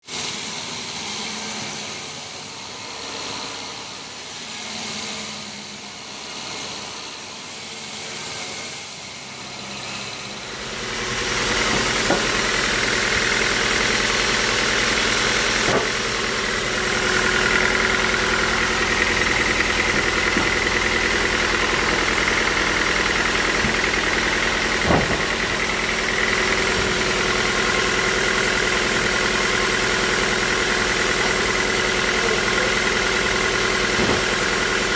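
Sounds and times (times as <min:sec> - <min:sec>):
sawmill machinery drone: 0:00.1 - 0:34.9.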